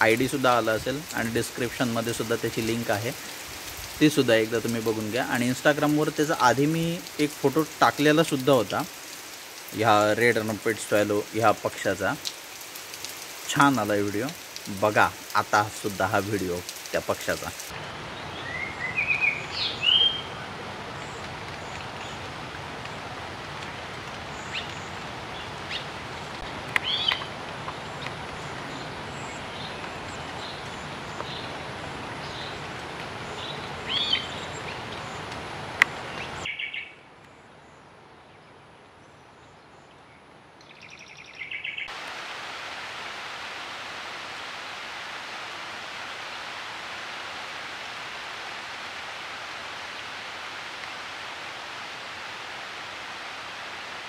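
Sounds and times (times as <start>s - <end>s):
light rain hiss: 0.0s - 54.0s.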